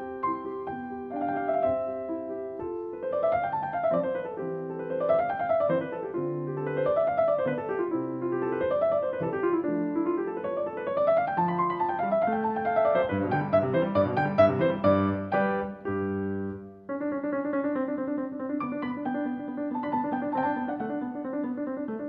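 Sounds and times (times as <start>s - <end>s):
piano arpeggios: 0.0s - 22.0s.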